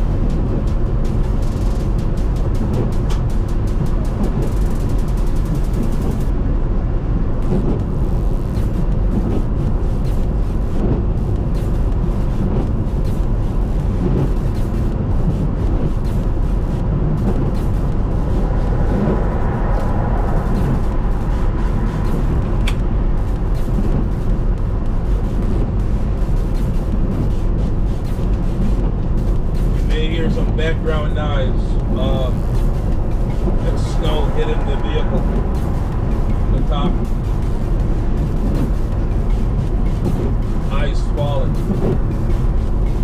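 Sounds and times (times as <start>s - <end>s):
road and engine rumble: 0.0s - 43.0s.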